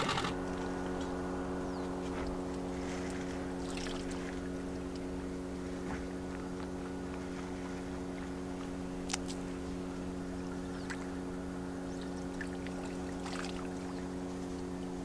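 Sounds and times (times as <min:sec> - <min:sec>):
outboard boat motor running: 0:00.0 - 0:15.0.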